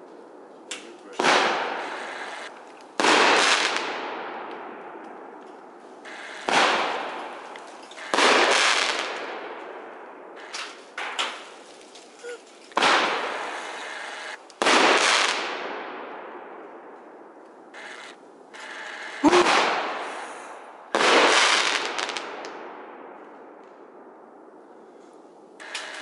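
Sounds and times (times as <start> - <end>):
fireworks rumble and crackle: 0.0 - 26.0
fireworks bangs: 0.8 - 23.8.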